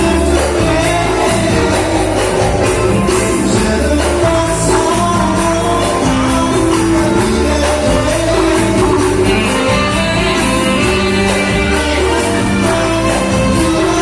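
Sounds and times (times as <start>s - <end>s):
live dance band music: 0.0s - 14.0s
person singing: 0.0s - 14.0s.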